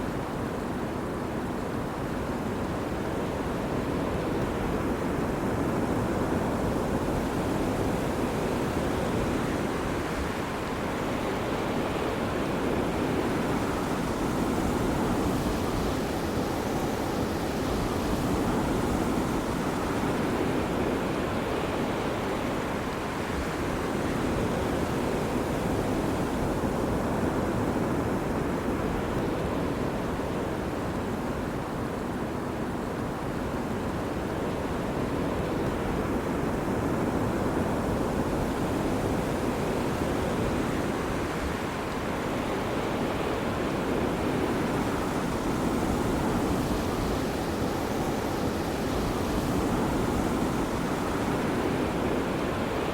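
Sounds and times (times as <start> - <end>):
ocean waves breaking on beach: 0.0 - 52.9.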